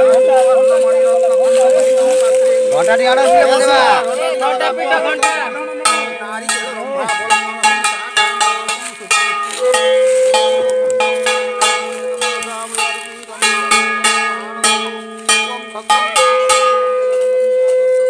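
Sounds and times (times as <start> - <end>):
metal bells ringing rapidly: 0.0 - 17.4
conch shell blown: 0.0 - 18.0.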